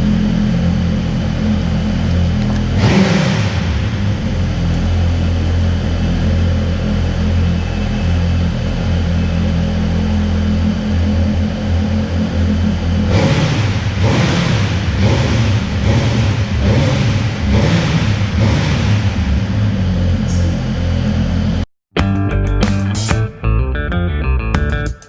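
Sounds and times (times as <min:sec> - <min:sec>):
motorcycle engine idling and revving: 0:00.0 - 0:21.7.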